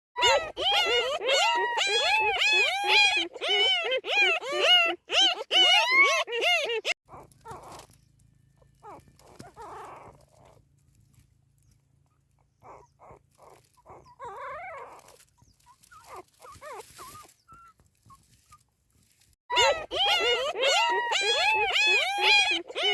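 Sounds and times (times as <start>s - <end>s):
newborn puppies squealing: 0.2s - 8.0s, 8.6s - 10.6s, 12.0s - 18.6s, 19.5s - 22.9s
puppies whimpering and squeaking: 0.2s - 22.9s.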